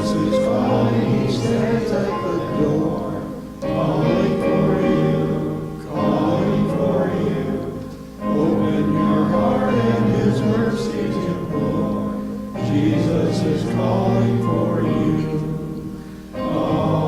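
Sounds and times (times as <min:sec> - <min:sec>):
congregation singing a hymn: 0:00.0 - 0:17.0.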